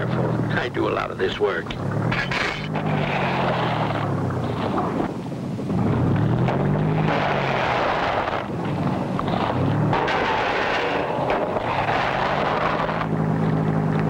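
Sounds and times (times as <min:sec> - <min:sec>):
cartoon truck engine revving: 0:00.0 - 0:14.0
rushing noise: 0:01.8 - 0:14.0.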